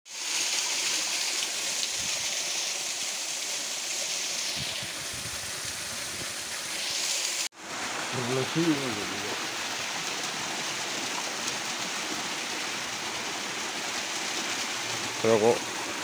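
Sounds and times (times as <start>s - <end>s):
stream water flowing: 0.1s - 16.0s.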